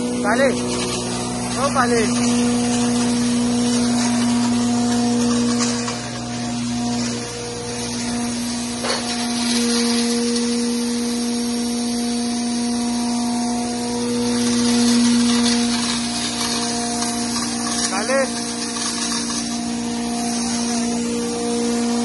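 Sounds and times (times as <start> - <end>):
grinding machine running: 0.0 - 22.0.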